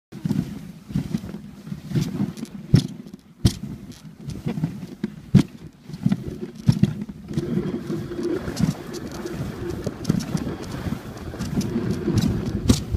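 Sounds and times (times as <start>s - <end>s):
sharp knocks from sled: 0.2s - 12.9s
sled runners scraping on snow: 0.2s - 12.9s.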